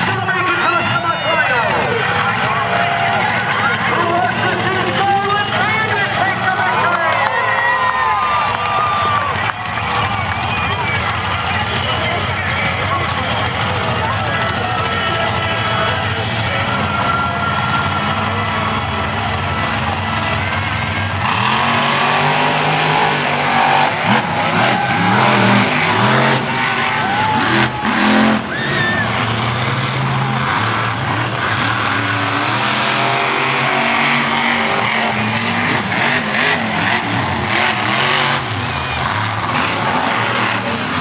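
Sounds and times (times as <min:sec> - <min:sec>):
monster truck engines revving: 0:00.0 - 0:41.0.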